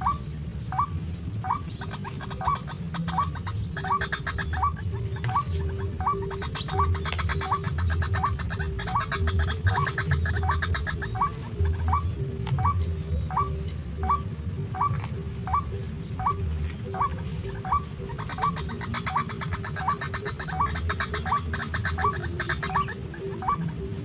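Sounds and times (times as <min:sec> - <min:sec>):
waterhen calls: 0:00.0 - 0:24.0.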